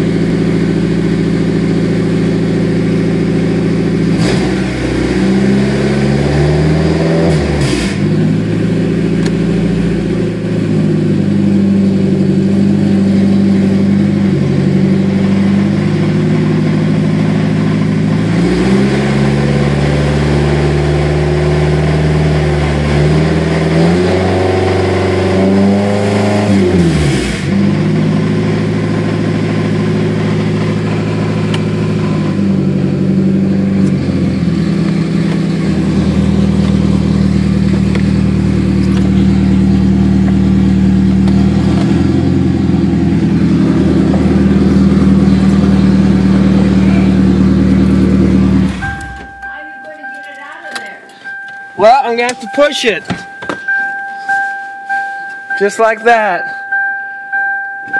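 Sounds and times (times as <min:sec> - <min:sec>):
car engine revving: 0:00.0 - 0:56.3.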